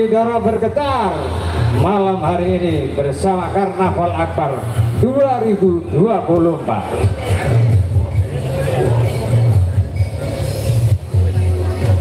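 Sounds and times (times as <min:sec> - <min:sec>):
pulsing deep bass from loudspeakers: 0:00.0 - 0:12.0.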